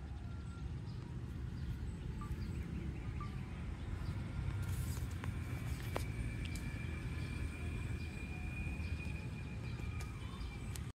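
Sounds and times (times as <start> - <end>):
low rumbling background noise: 0.0 - 10.9.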